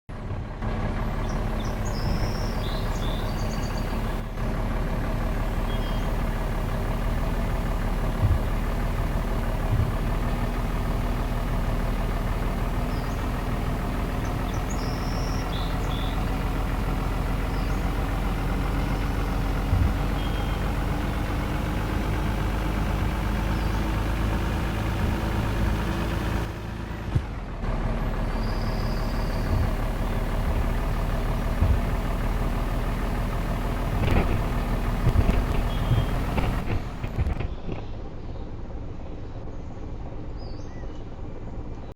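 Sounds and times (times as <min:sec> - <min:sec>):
truck engine revving: 0:00.2 - 0:37.9.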